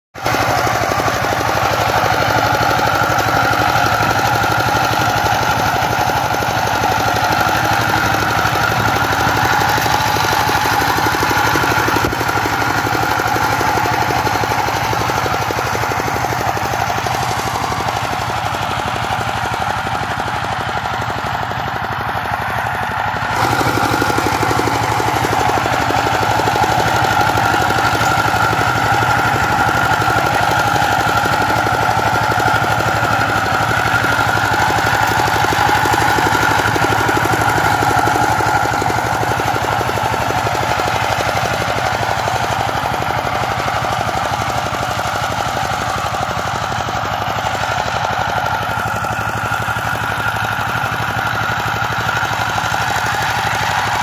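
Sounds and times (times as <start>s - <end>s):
diesel engine running: 0.2s - 54.0s
rotary tiller churning soil: 0.2s - 54.0s.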